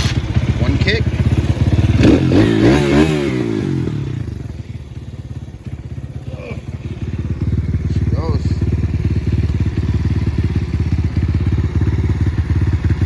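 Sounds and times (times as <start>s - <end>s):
pit bike engine idling: 0.0s - 13.0s.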